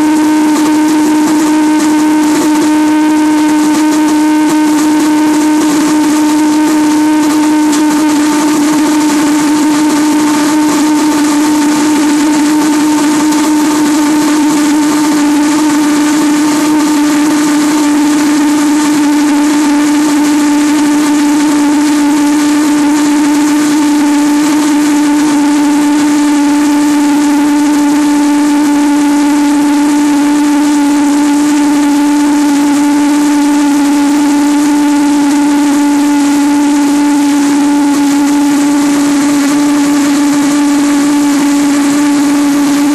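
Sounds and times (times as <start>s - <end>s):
pulsejet drone with hiss: 0.0s - 42.9s.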